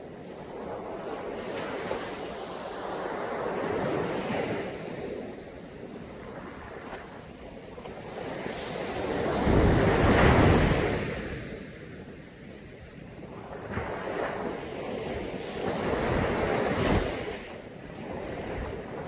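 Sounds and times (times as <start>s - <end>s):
sea waves washing onto beach: 0.0s - 19.0s
wind on microphone: 0.0s - 19.0s.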